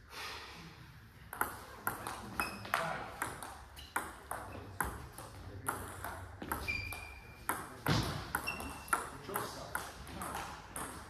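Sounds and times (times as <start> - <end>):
table tennis ball hitting rackets: 1.3 - 11.0.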